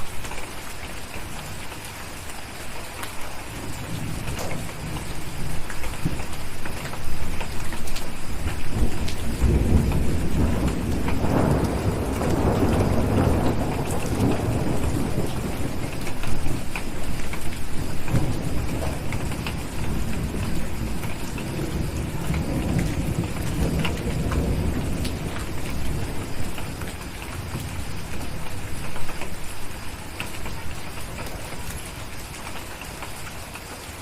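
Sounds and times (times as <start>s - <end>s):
steady rain: 0.0s - 34.0s
thunder rumbling: 3.4s - 32.1s.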